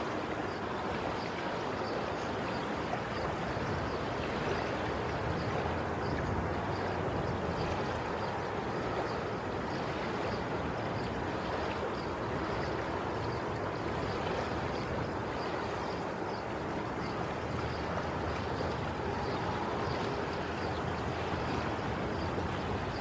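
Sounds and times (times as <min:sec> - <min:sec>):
ocean waves washing onto shore: 0:00.0 - 0:23.0.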